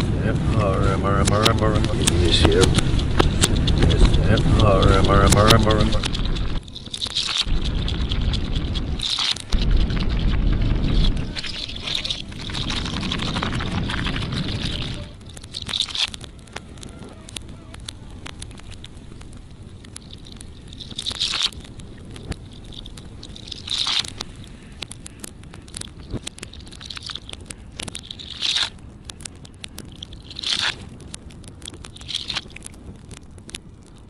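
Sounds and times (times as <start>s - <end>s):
straw fire crackling and popping: 0.0s - 34.0s.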